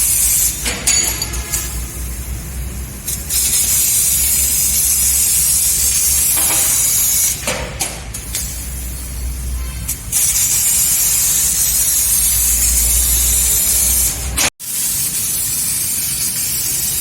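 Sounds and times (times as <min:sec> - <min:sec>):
loud gas jet hiss: 0:00.0 - 0:00.8, 0:01.4 - 0:17.0.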